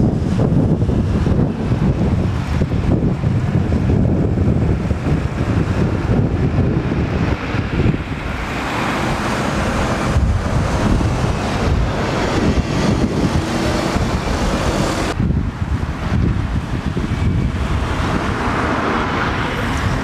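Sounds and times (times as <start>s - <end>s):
bus driving past: 0.0s - 20.0s
truck pulling away: 0.0s - 20.0s
wind buffeting microphone: 0.0s - 20.0s.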